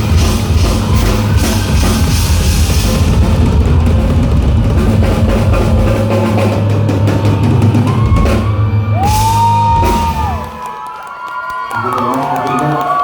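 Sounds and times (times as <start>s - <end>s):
bass: 0.0s - 10.6s
drum kit: 0.0s - 10.6s
live rock band playing: 0.0s - 10.6s.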